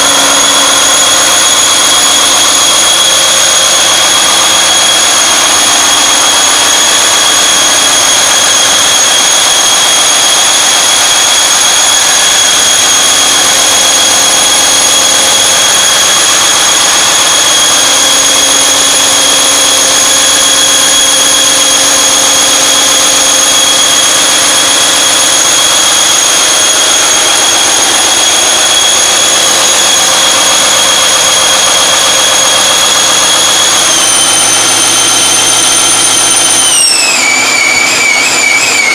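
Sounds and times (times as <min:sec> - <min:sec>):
diesel engine running: 0:00.0 - 0:38.9
high steady whine: 0:00.0 - 0:38.9.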